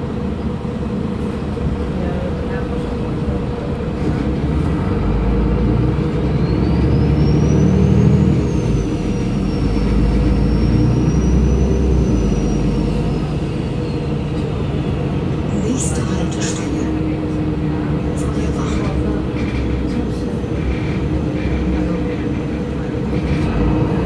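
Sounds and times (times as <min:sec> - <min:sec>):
bus engine: 0:00.0 - 0:24.0.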